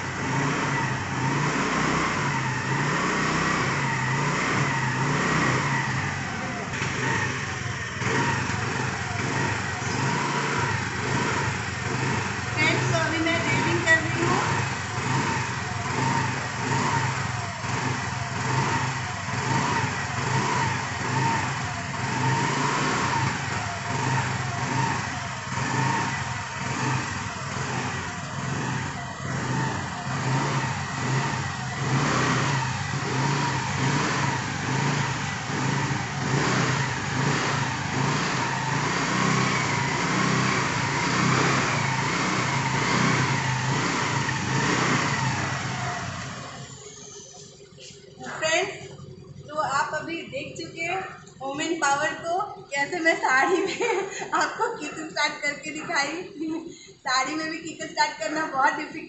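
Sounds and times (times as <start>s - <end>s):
scooter engine revving: 0.0s - 59.0s.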